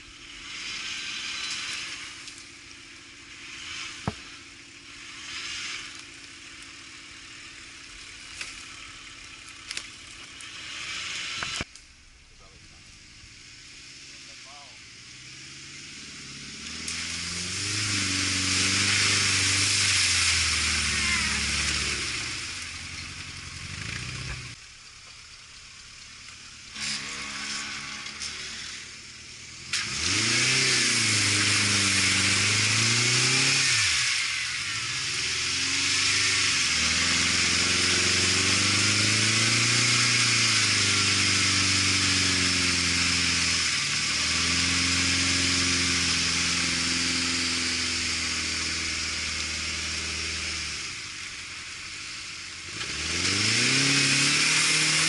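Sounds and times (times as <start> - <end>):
engine revving under load: 0.0 - 11.7, 12.4 - 24.6, 26.6 - 55.0.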